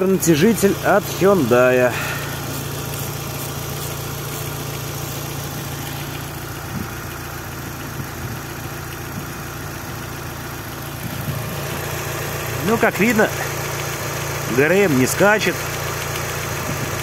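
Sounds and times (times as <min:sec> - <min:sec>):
car engine idling: 0:00.0 - 0:17.0
engine tensioner knocking: 0:00.3 - 0:10.0, 0:11.0 - 0:17.0.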